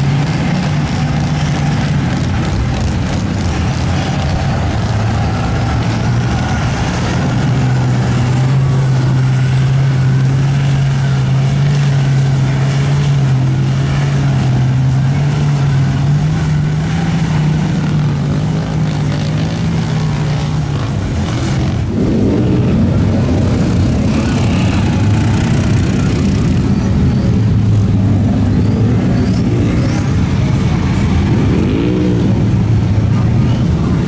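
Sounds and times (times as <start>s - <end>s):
truck engine steady note: 0.0s - 31.5s
loud engine revving: 0.0s - 34.0s.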